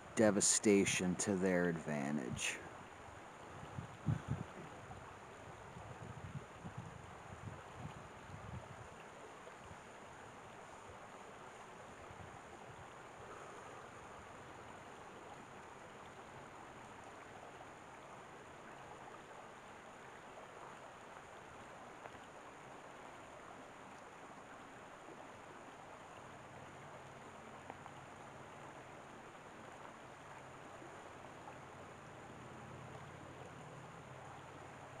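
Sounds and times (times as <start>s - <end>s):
stream flowing over stones: 0.0s - 35.0s.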